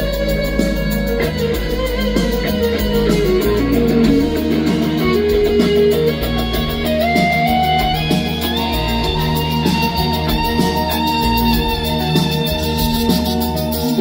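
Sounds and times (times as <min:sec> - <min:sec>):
bass notes: 0:00.0 - 0:14.0
lead guitar: 0:00.0 - 0:14.0
live band instrumental: 0:00.0 - 0:14.0.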